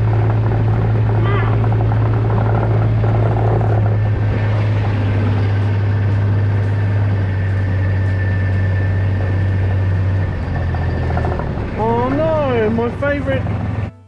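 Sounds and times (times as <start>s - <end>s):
vehicle engine running steadily: 0.0s - 14.0s.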